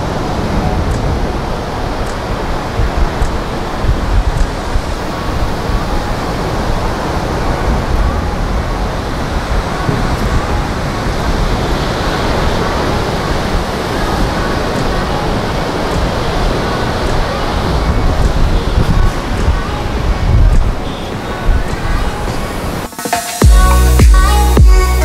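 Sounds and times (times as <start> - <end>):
ocean surf rushing: 0.0 - 25.0
wind on microphone: 0.0 - 25.0.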